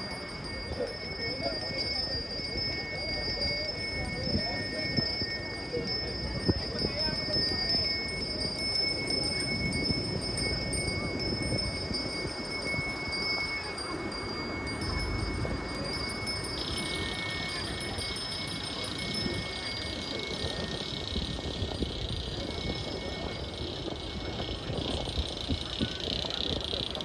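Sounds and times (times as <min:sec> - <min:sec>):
crowd murmur and shuffling: 0:00.0 - 0:27.0
thin high ringing tone: 0:00.0 - 0:27.0.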